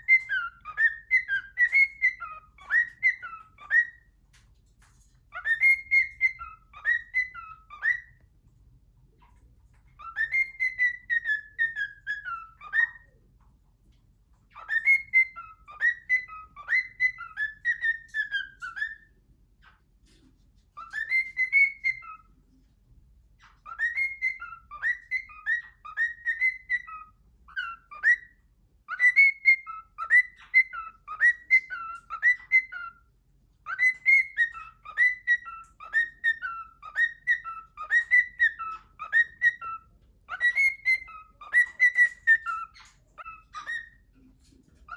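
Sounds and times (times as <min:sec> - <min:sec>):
cockatiel whistling: 0:00.0 - 0:04.2, 0:05.3 - 0:08.3, 0:09.8 - 0:13.2, 0:14.5 - 0:19.2, 0:20.8 - 0:22.4, 0:23.4 - 0:44.1.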